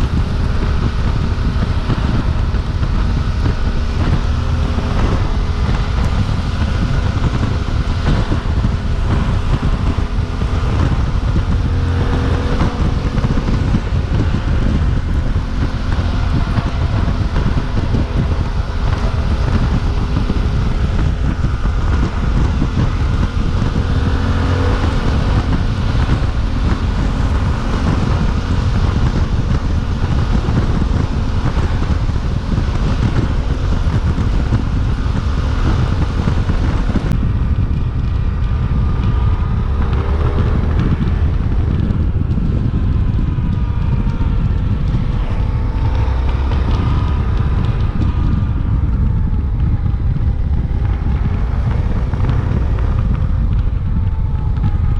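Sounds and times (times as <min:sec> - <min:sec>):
motorcycle engine running: 0:00.0 - 0:54.9
wind buffeting on microphone: 0:00.0 - 0:54.9.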